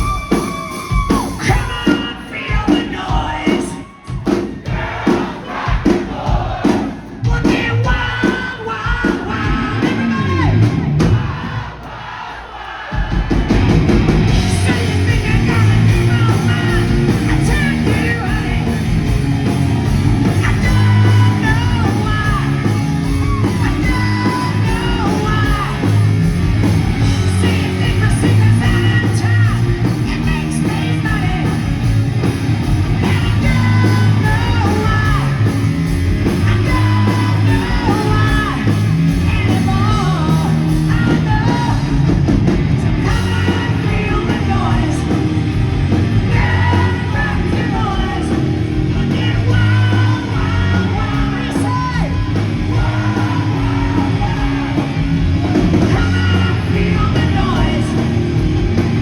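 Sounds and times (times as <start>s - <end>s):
man singing and shouting: 0.0s - 11.4s, 14.3s - 19.2s, 20.1s - 32.0s, 32.9s - 58.4s
hard rock band playing: 0.0s - 59.0s.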